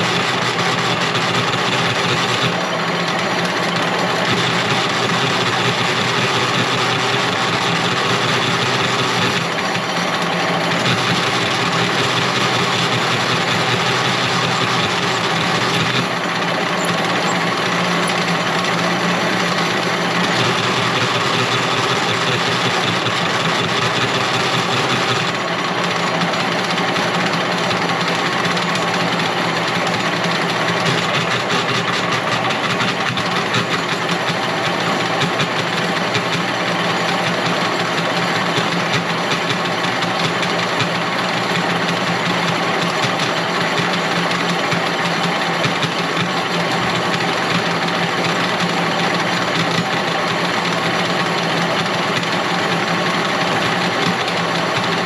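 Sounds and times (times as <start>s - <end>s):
wire-stripping machine running: 0.0s - 55.0s.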